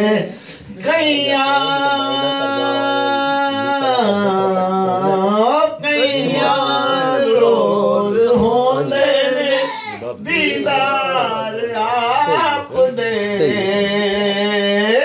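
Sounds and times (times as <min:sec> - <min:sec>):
men singing devotional song: 0:00.0 - 0:15.0.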